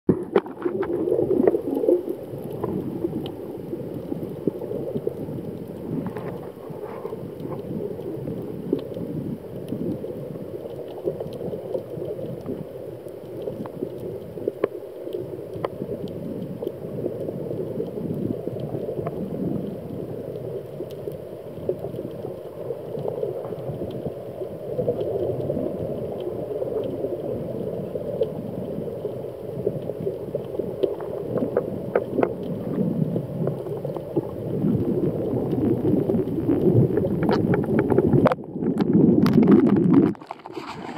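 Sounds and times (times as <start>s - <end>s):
muffled underwater rumble: 0.1s - 40.9s
faint clicks: 0.3s - 40.1s.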